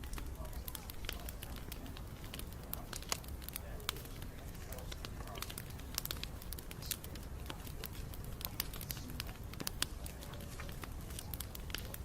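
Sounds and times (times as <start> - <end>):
bonfire crackling and popping: 0.0 - 12.0
low rush of flames: 0.0 - 12.0.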